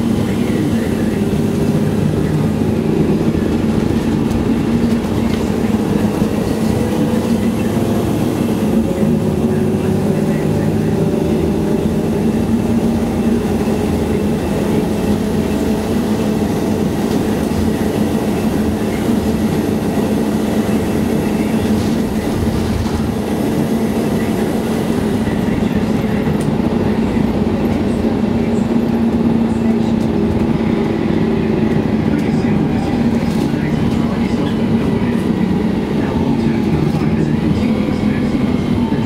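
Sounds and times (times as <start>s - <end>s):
bus engine drone: 0.0s - 39.0s
road and body rumble: 0.0s - 39.0s.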